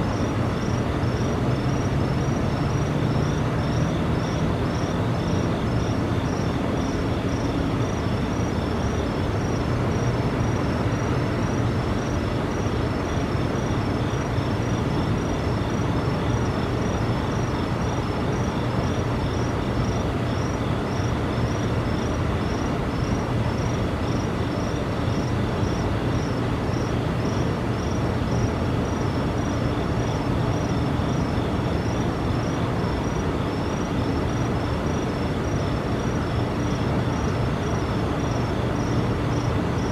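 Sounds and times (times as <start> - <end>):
high insect chirping: 0.0 - 39.9.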